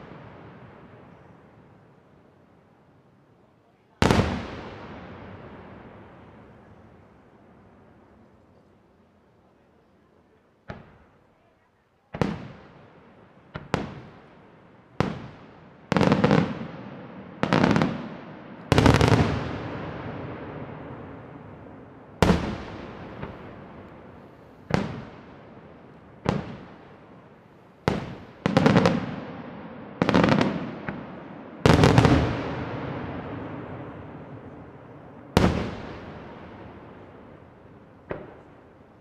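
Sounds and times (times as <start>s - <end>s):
fireworks bangs with rolling echo: 0.0s - 2.0s, 3.9s - 8.2s, 10.6s - 11.3s, 12.1s - 39.0s.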